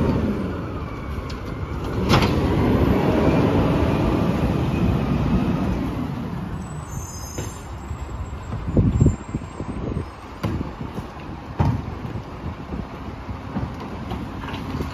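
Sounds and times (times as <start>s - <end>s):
garbage truck diesel engine: 0.0s - 14.9s.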